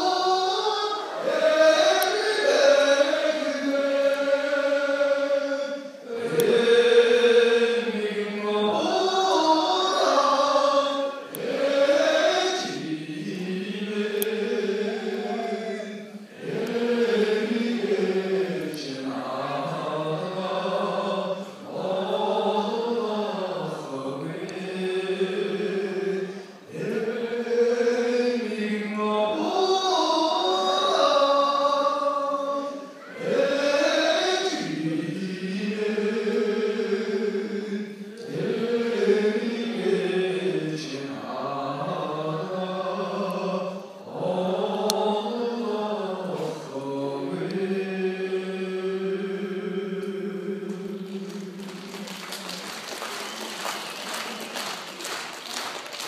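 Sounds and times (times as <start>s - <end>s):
man singing into microphone: 0.0s - 51.6s.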